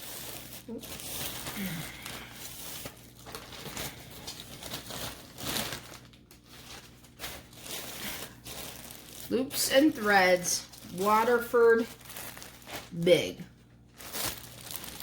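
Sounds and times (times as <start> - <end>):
shopping bag crinkling: 0.0 - 15.0.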